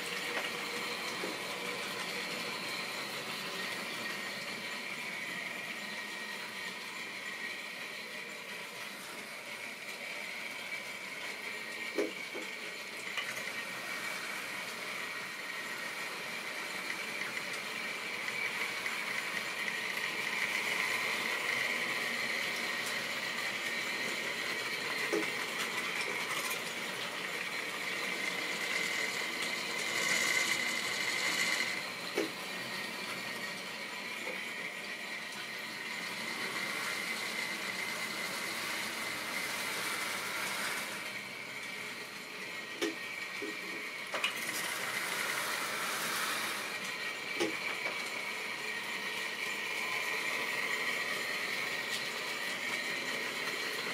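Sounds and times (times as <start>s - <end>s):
model train motors whining: 0.0s - 53.9s.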